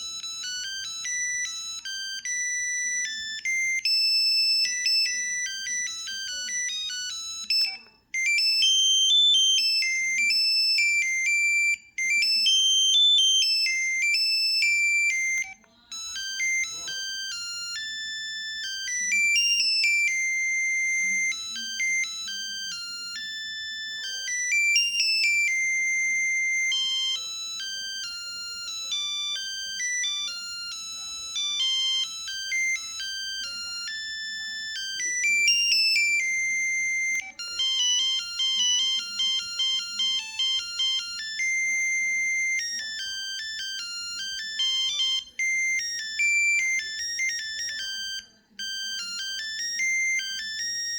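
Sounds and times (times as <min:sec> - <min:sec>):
polyphonic phone ringtone: 0:00.0 - 0:50.9.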